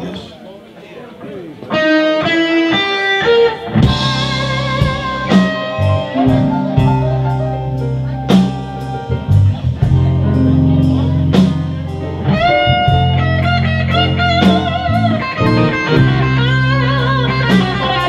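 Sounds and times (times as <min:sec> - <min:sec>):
electric blues band playing: 0:01.6 - 0:18.0.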